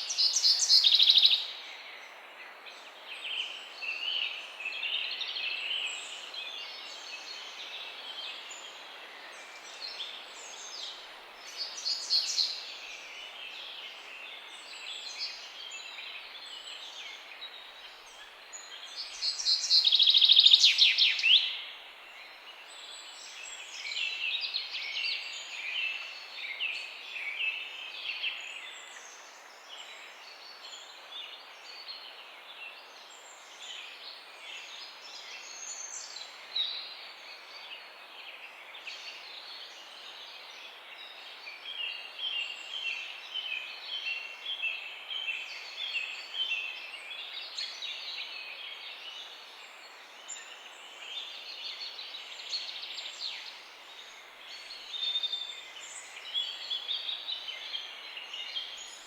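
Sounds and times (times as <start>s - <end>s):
faint outdoor hiss: 0.0s - 59.0s
songbirds chirping: 0.0s - 59.0s.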